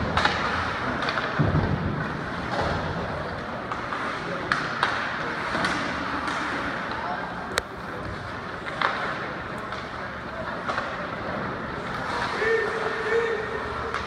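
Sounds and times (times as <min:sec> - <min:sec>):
hockey sticks and puck clacking: 0:00.0 - 0:14.0.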